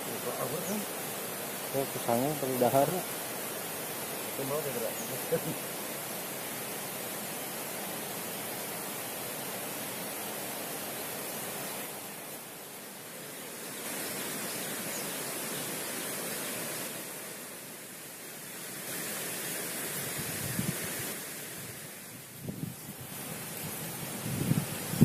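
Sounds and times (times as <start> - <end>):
river water flowing over rocks: 0.0 - 25.0.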